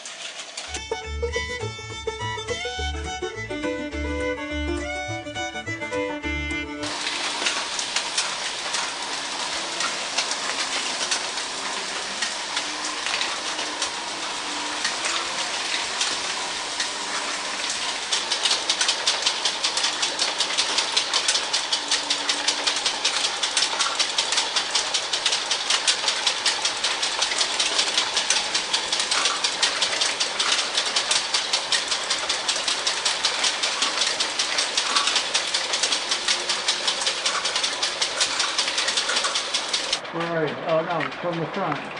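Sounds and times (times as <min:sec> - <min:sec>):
model train wheels clicking on track: 0:06.8 - 0:41.9.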